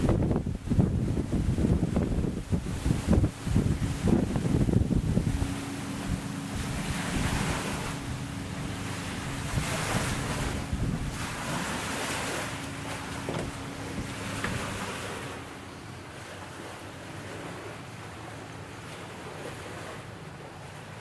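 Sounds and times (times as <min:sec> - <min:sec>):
lake water washing: 0:00.0 - 0:21.0
steady low hum: 0:00.0 - 0:21.0
wind buffeting microphone: 0:00.0 - 0:21.0.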